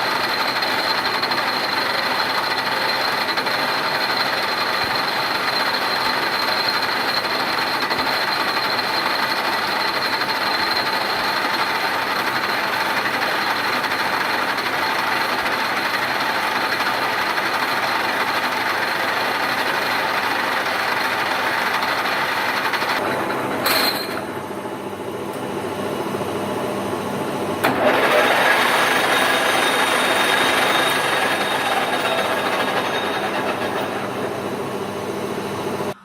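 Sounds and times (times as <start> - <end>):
lathe whirring: 0.0 - 36.0.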